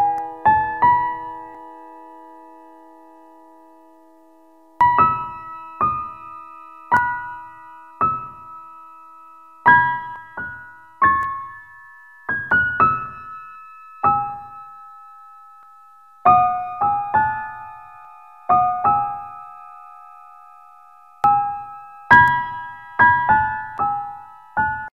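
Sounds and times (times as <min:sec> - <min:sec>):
slow sparse piano music: 0:00.0 - 0:24.9.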